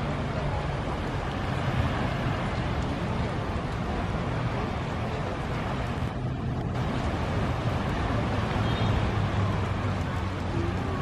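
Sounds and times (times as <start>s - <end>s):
sea surf washing onto beach: 0.0s - 11.0s
wind rumbling on microphone: 0.0s - 11.0s.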